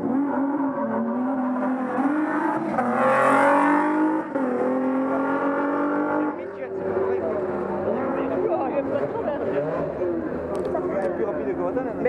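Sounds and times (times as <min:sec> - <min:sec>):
car accelerating hard: 0:00.0 - 0:11.0.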